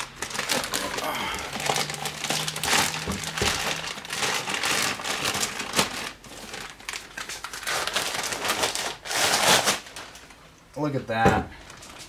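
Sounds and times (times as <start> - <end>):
plastic bag crinkling: 0.0 - 10.4, 11.6 - 12.0.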